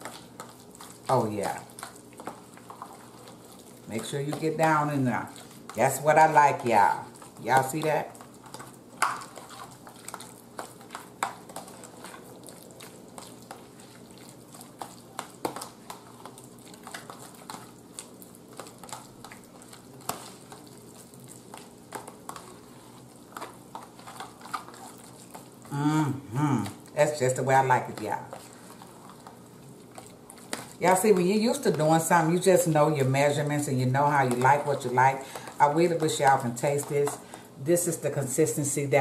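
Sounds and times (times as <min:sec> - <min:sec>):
wet squishing: 0:00.0 - 0:25.8, 0:27.6 - 0:36.5.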